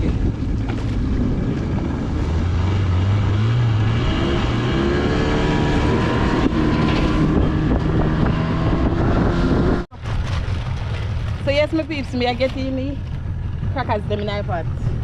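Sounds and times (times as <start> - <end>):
boat motor speeding up: 0.0 - 15.0.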